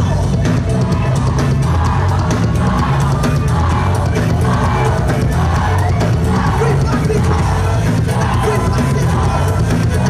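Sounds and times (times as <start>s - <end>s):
loud dance music: 0.0s - 10.0s.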